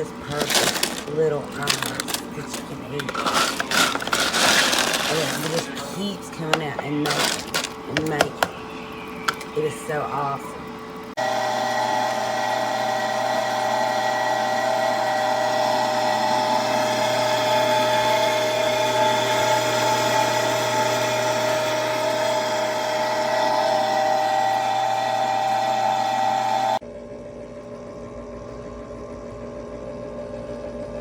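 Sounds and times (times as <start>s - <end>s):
ice maker motor whine: 0.0s - 31.0s.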